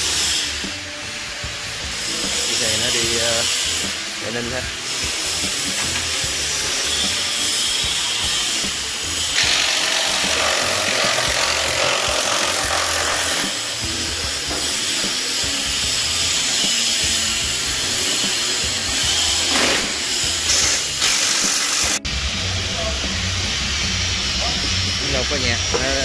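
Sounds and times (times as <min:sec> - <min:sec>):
hissing power tool: 0:00.0 - 0:26.0.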